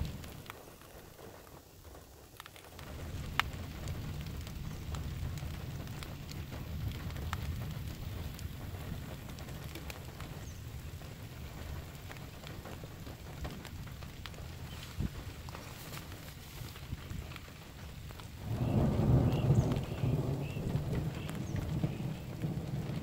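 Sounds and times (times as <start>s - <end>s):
steady rain patter: 0.0s - 23.0s.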